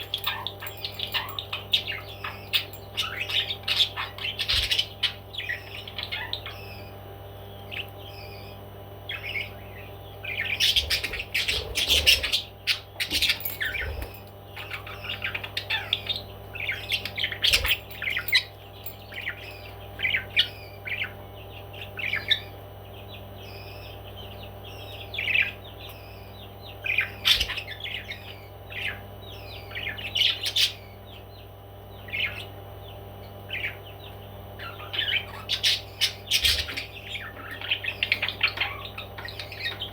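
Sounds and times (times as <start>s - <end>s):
parrots chirping and squawking: 0.0s - 39.9s
steady low hum: 0.0s - 39.9s.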